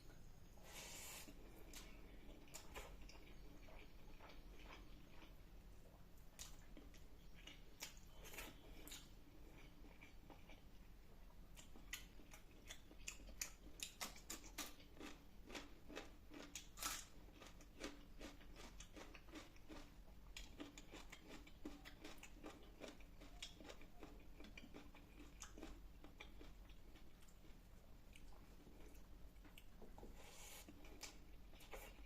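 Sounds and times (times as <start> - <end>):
chewing and crunching food: 0.2 - 32.0.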